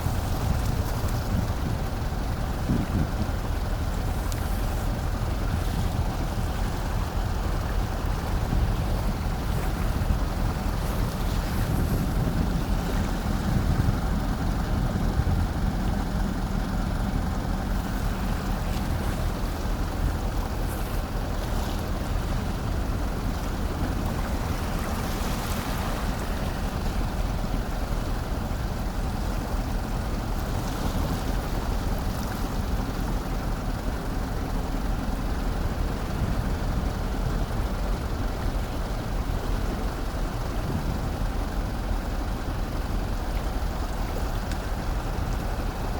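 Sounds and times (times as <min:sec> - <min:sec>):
ship engine rumble: 0:00.0 - 0:45.9
water noise: 0:00.0 - 0:45.9
wind: 0:00.0 - 0:45.9.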